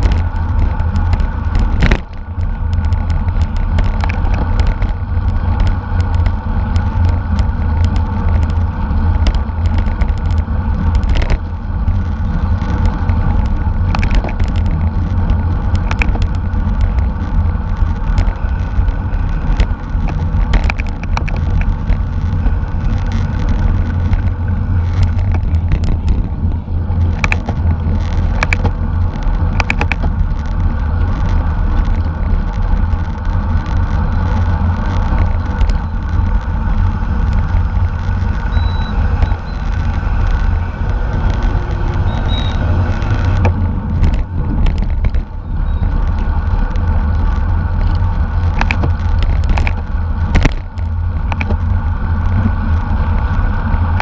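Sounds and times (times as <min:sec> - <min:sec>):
clicks and rattles: 0:00.0 - 0:53.3
wind buffeting microphone: 0:00.0 - 0:54.0.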